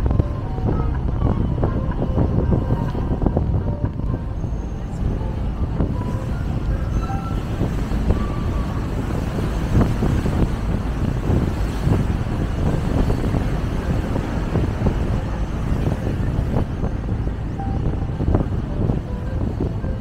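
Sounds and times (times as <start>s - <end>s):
boat engine running: 0.0s - 20.0s
wind buffeting microphone: 0.0s - 20.0s.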